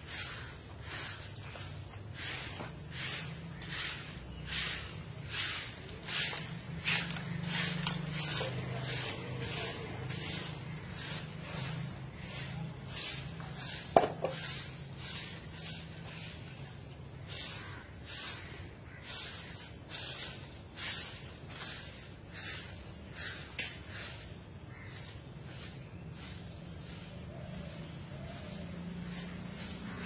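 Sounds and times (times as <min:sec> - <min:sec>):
broom sweeping dirt: 0:00.0 - 0:30.0.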